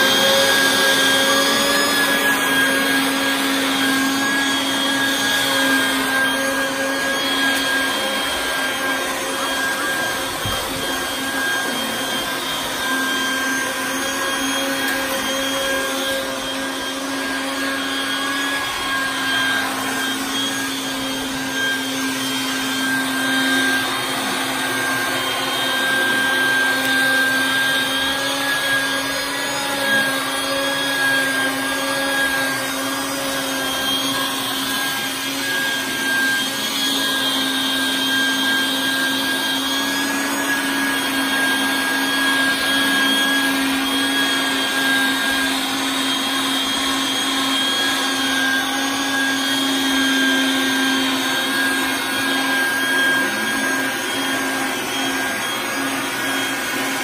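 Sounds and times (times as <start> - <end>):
shop vacuum motor whine: 0.0 - 57.0.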